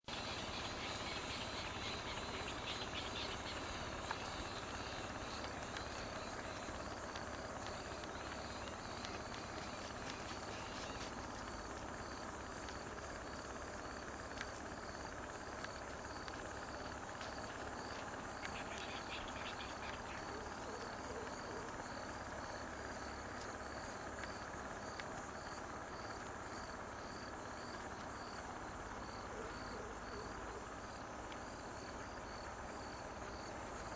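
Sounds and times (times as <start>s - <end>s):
insect chirping: 0.0s - 33.9s
low steady rumble: 0.1s - 33.9s.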